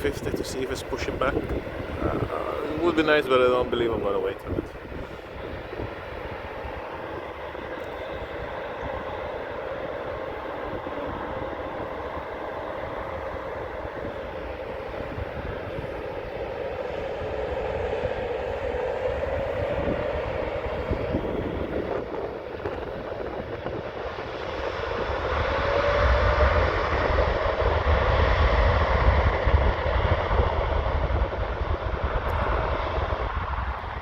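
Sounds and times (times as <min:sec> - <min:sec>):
jet engines at takeoff: 0:00.0 - 0:34.0.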